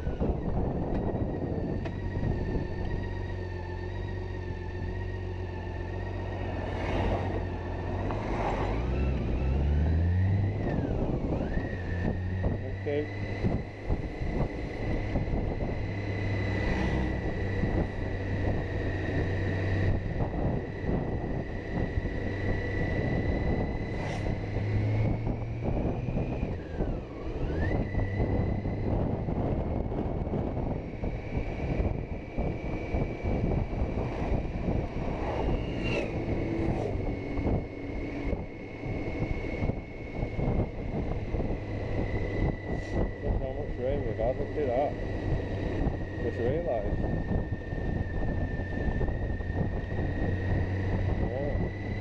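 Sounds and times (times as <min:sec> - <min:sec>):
thin steady whine: 0:00.0 - 0:52.0
wind rushing over microphone: 0:00.0 - 0:52.0
motorcycle engine running: 0:10.1 - 0:52.0.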